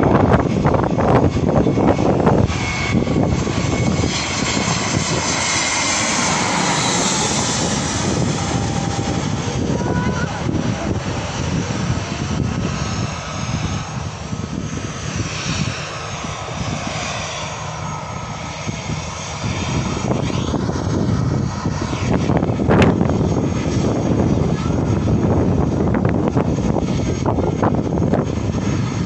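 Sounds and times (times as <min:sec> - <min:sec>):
departing airliner engine whine: 0:00.0 - 0:29.0
jet taxiing rumble and whine: 0:00.0 - 0:29.0.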